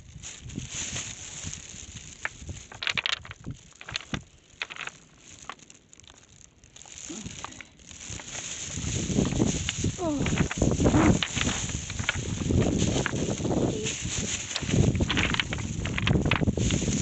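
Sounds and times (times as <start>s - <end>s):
crunching on stones and driftwood: 0.0s - 17.0s.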